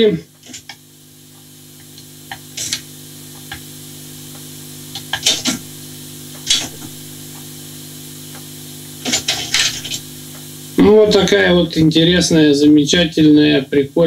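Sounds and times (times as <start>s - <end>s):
cassette deck whirring: 0.0s - 14.0s.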